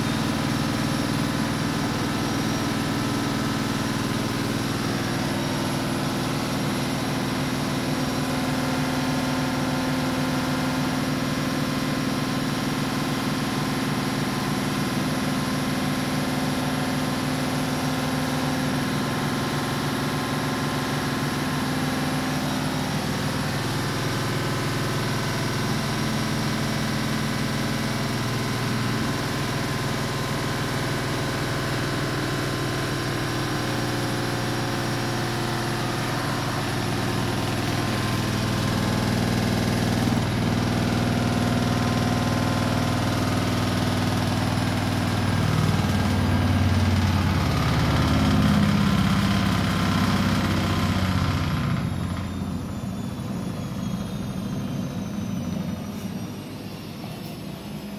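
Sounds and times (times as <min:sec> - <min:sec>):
washing machine spin cycle hum: 0:00.0 - 0:57.9.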